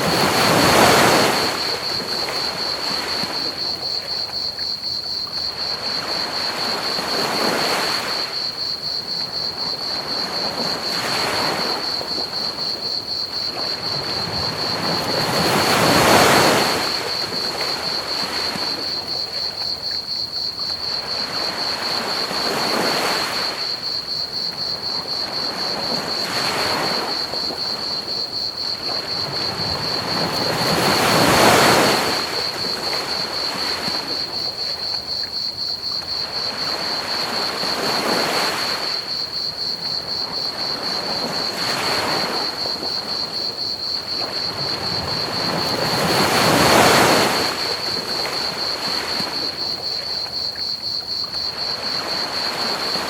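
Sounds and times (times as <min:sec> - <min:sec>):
crickets chirping: 0:00.0 - 0:53.0
ocean waves washing onto beach: 0:00.0 - 0:53.0.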